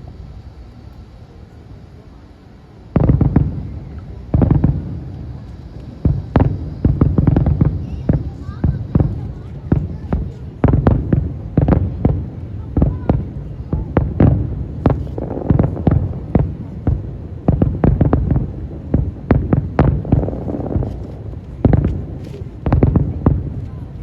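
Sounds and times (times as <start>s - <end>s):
fireworks bangs: 2.9s - 24.0s.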